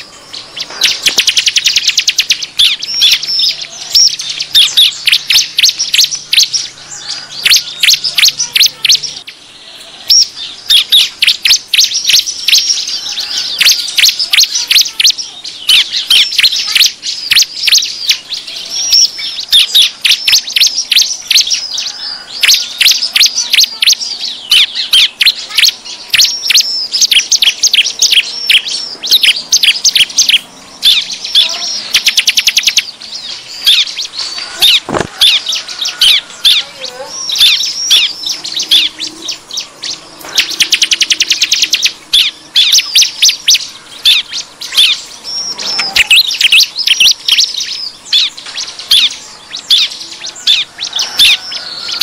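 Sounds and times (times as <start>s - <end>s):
bird chirping and trilling: 0.0s - 52.0s.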